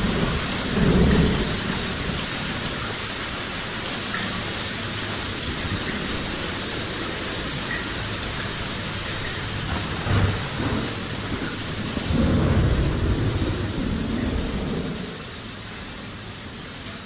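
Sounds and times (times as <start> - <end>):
thunder rumbling: 0.0 - 3.8, 5.1 - 15.4
rain hissing: 0.0 - 16.9.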